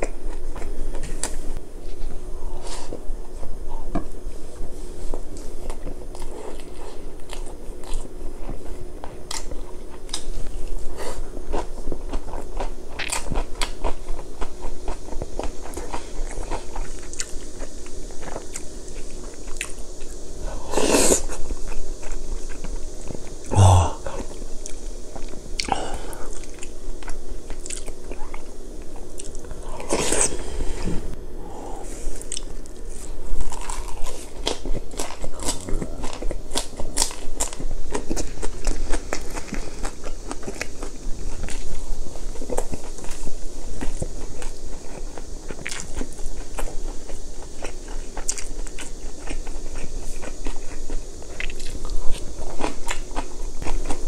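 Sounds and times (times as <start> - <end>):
close-miked chewing: 5.3 - 20.2, 21.0 - 30.4, 32.2 - 54.0.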